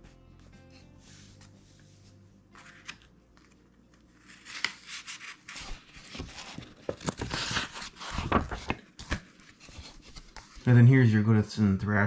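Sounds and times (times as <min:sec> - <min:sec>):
paper pages rustling: 0:01.0 - 0:10.9.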